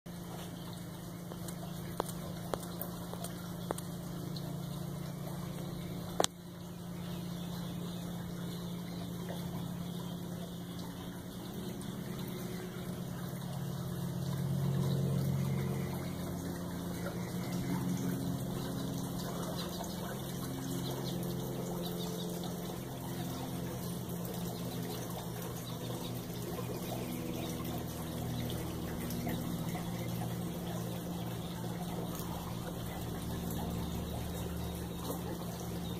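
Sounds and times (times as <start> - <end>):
pool filter pump humming: 0.1 - 35.9.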